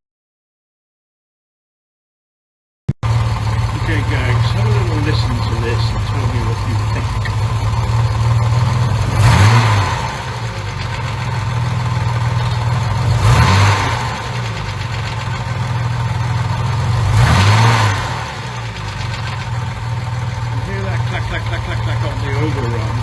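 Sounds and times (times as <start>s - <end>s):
car engine idling: 3.0s - 23.0s
engine throttle blips: 3.0s - 23.0s.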